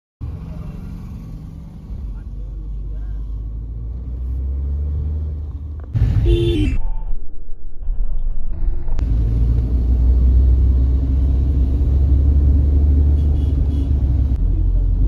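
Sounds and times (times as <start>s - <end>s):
car engine and road noise: 0.2s - 6.8s, 8.2s - 15.0s.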